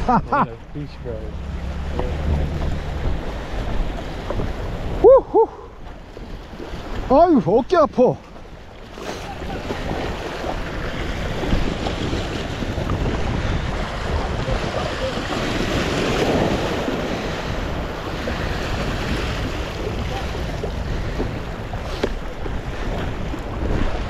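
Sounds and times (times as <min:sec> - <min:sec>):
sea waves washing over rocks: 0:00.0 - 0:24.0
wind buffeting microphone: 0:00.0 - 0:24.0.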